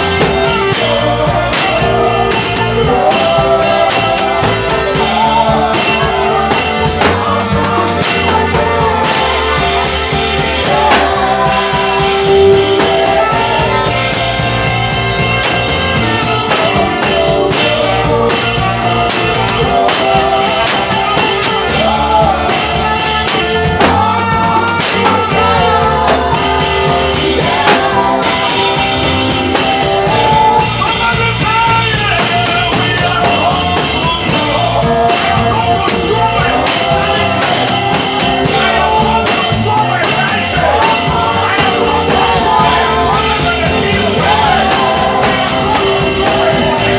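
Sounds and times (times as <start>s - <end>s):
band with drums and guitar: 0.0s - 46.9s
saxophone melody: 0.0s - 46.9s.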